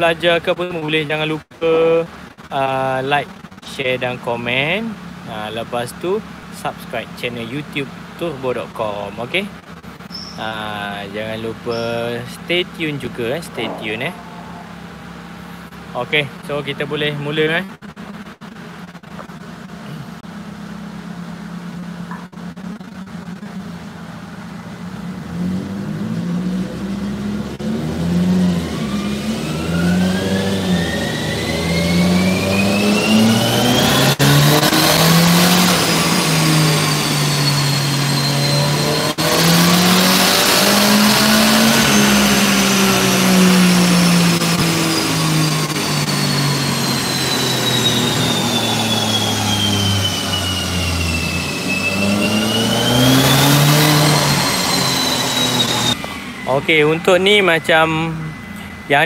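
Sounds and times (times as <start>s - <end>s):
high whine rising in pitch: 0.0s - 59.0s
turbocharged engine running under load: 0.0s - 59.0s.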